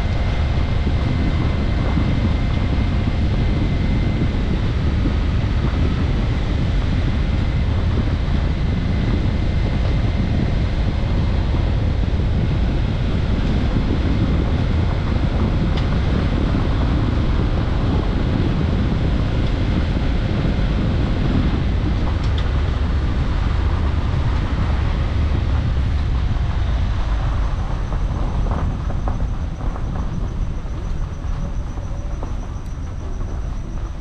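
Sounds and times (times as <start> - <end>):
car engine and tyres rumble: 0.0 - 34.0
wind noise on microphone: 0.0 - 34.0.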